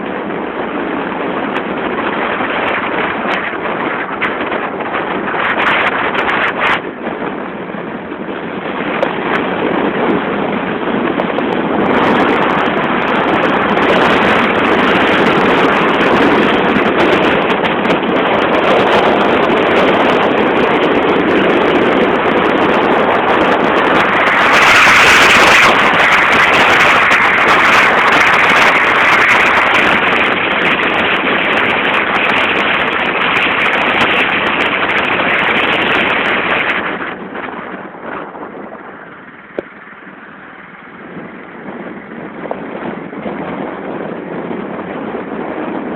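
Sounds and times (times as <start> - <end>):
car road and wind noise: 0.0 - 45.9.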